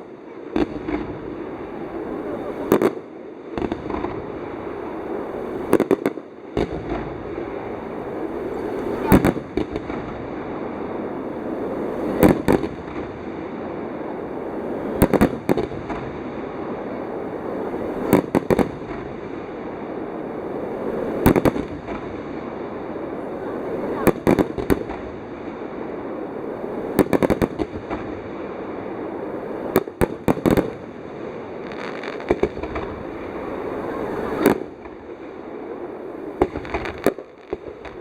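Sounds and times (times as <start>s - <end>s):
background murmur: 0.0s - 38.0s.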